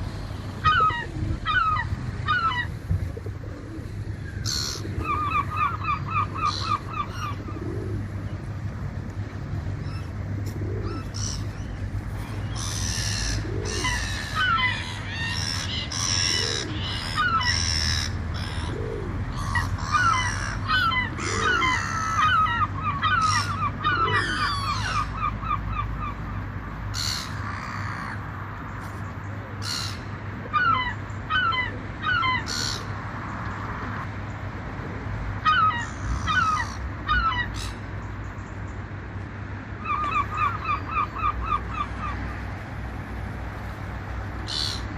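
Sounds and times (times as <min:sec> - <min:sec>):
gulls calling: 0:00.0 - 0:44.9.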